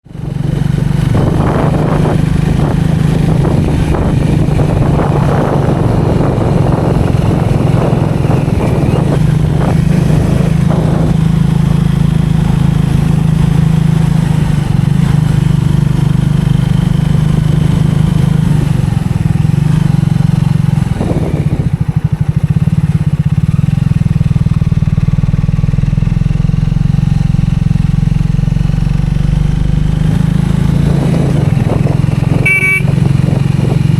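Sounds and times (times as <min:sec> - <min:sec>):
motorcycle engine running: 0:00.0 - 0:33.9
road noise: 0:00.0 - 0:33.9
rushing wind: 0:00.1 - 0:33.9.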